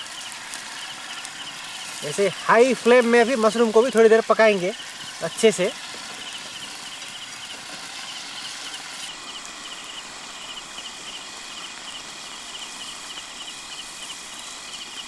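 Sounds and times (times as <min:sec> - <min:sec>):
mushrooms sizzling in oil: 0:00.0 - 0:15.0
night insects chirping: 0:00.0 - 0:15.0.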